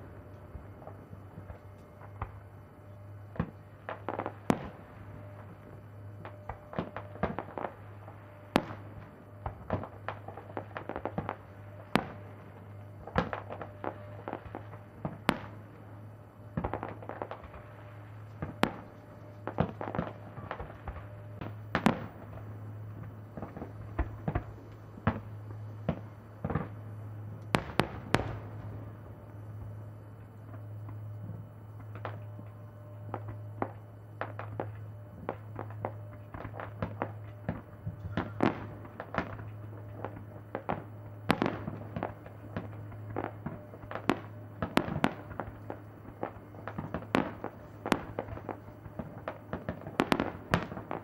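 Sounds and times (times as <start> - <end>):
fireworks bangs and crackles: 0.0 - 51.0
steady low hum: 0.0 - 51.0.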